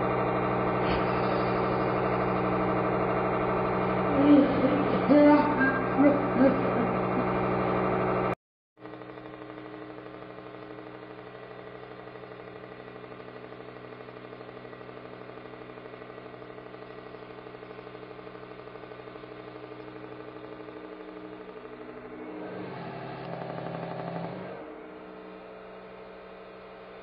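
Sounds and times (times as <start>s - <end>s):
hydraulic pump motor humming: 0.0s - 27.0s.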